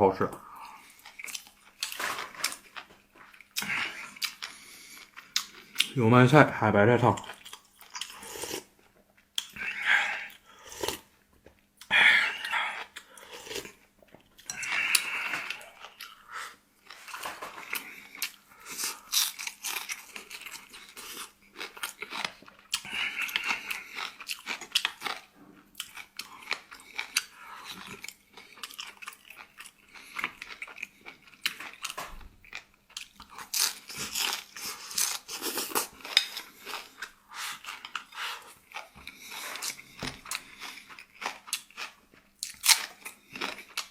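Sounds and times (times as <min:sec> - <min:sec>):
person chewing crunchy food: 0:00.5 - 0:06.0, 0:07.1 - 0:43.9.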